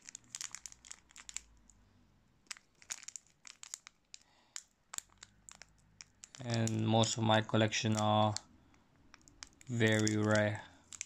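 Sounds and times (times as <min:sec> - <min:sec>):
foil wrapper crinkling: 0:00.0 - 0:01.8, 0:02.4 - 0:11.0.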